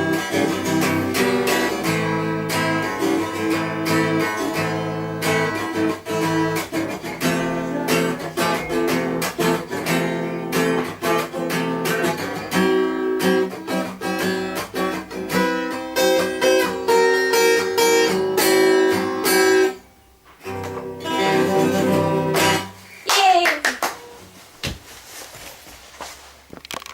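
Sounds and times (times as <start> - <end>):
acoustic guitar strumming chords: 0.0 - 22.9.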